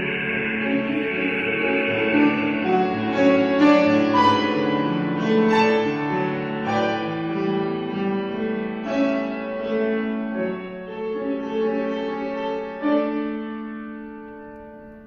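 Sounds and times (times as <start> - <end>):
classical piano: 0.0 - 15.0.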